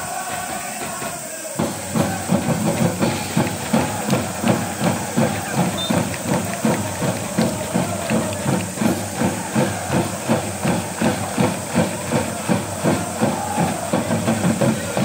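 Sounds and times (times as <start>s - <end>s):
crowd chanting: 0.0s - 15.0s
steady drum beat: 0.0s - 15.0s.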